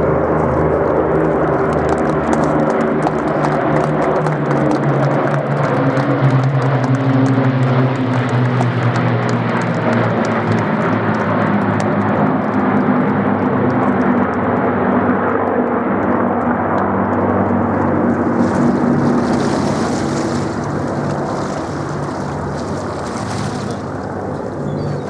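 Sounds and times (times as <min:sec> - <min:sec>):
aircraft piston engines droning: 0:00.0 - 0:25.0.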